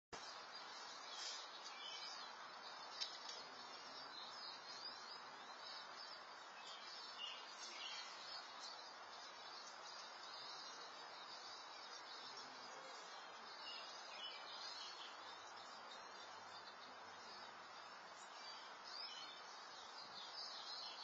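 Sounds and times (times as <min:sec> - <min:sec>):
small birds chirping: 0:00.1 - 0:21.0
steady hiss: 0:00.1 - 0:21.0.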